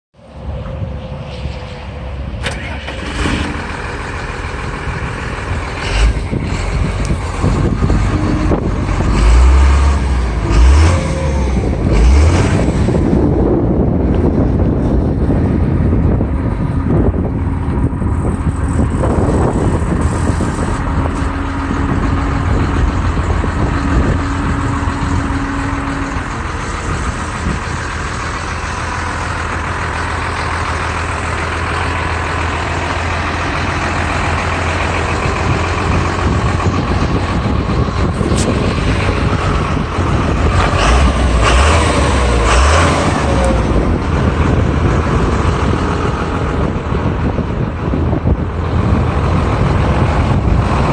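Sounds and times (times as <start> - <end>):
truck engine humming: 0.2 - 50.9.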